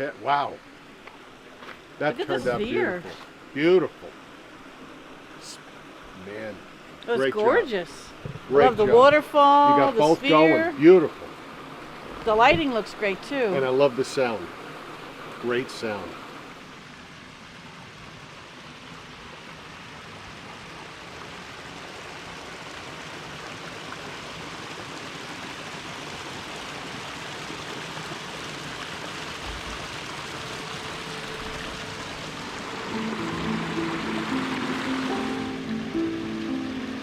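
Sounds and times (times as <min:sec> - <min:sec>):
waterfall splashing into pond: 0:02.9 - 0:37.0.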